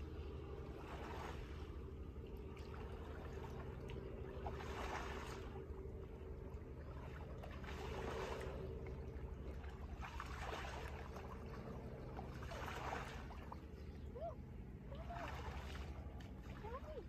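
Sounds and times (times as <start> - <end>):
water sloshing: 0.0 - 17.0.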